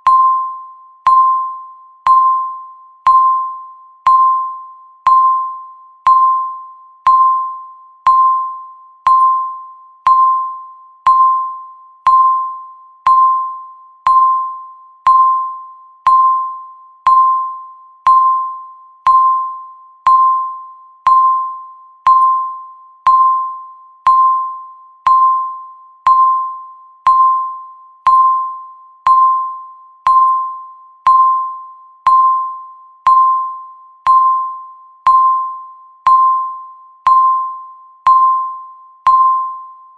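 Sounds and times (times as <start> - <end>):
bell-like timer ticks: 0.0 - 39.9.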